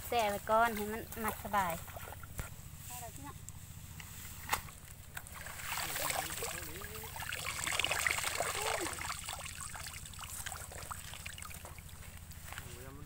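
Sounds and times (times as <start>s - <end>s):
rice stalks rustling and crackling: 0.0s - 12.9s.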